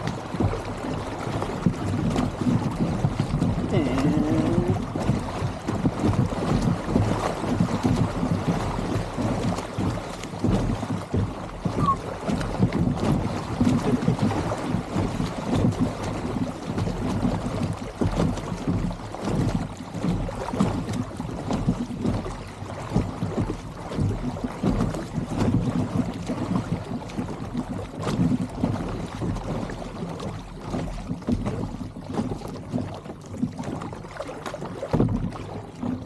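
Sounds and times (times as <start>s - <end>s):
water lapping against kayak hull: 0.0s - 36.0s.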